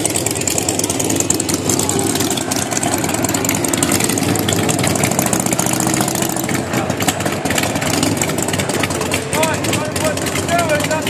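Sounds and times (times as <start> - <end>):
coach engine: 0.0 - 11.0
motorcycle engines idling: 0.0 - 11.0.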